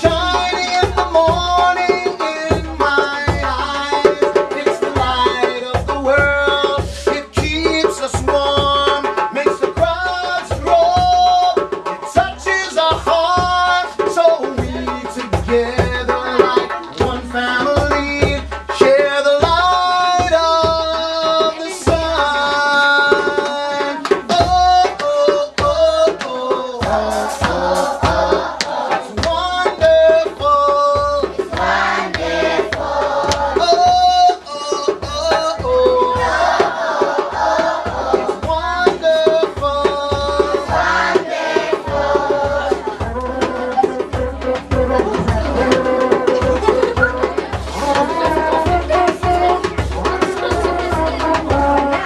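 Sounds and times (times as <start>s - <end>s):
hand drum beat: 0.0s - 52.0s
voices singing a melody: 0.0s - 52.0s.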